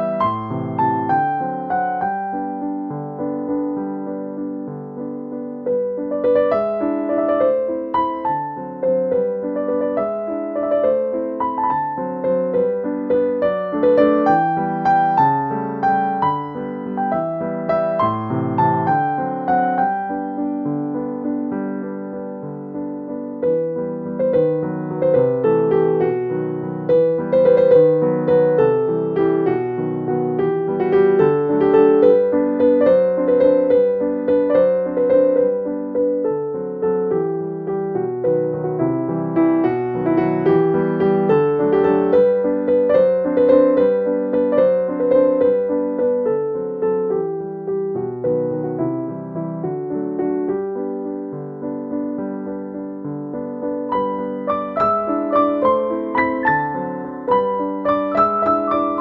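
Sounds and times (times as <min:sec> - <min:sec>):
gentle piano tune: 0:00.0 - 0:59.0.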